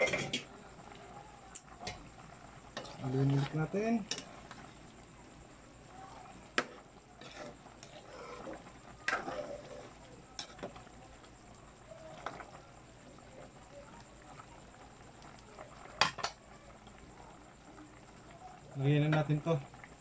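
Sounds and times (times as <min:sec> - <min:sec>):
stew bubbling: 0:00.0 - 0:20.0.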